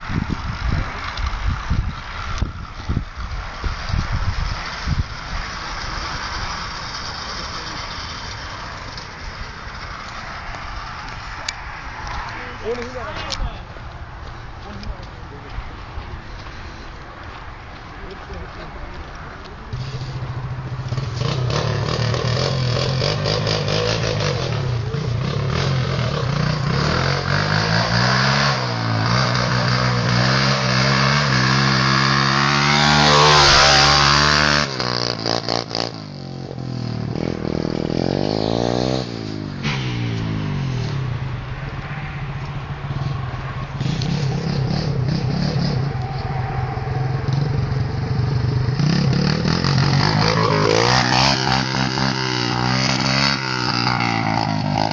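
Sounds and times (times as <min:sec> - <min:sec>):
motorbike engine idling and revving: 0:00.0 - 0:54.9.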